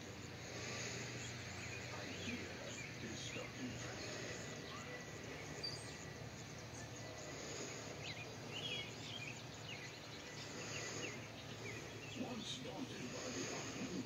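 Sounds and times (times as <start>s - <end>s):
small birds chirping: 0.0s - 14.0s
steady background hiss: 0.0s - 14.0s.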